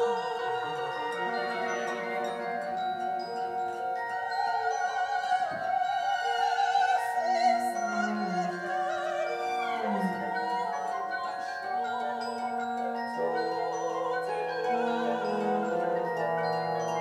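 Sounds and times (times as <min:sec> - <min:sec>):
operatic high voice singing: 0:00.0 - 0:03.2, 0:04.0 - 0:17.0
instrumental ensemble sustained chords: 0:00.0 - 0:06.0, 0:06.6 - 0:17.0.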